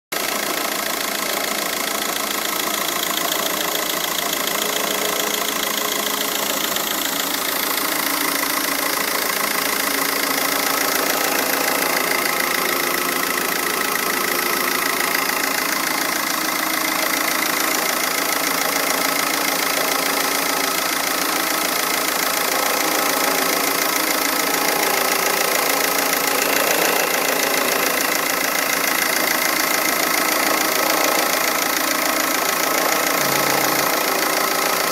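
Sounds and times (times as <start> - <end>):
diesel engine running: 0.2 - 34.9
odd engine noise: 0.2 - 34.9.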